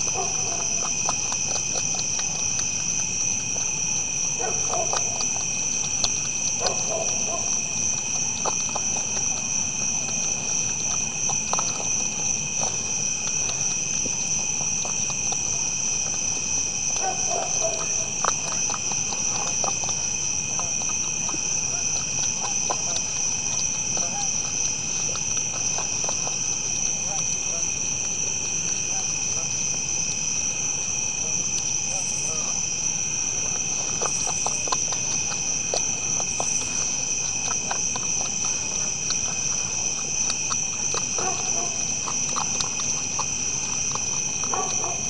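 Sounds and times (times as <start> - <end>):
deer crunching feed: 0.0 - 45.0
night insects trilling: 0.0 - 45.0.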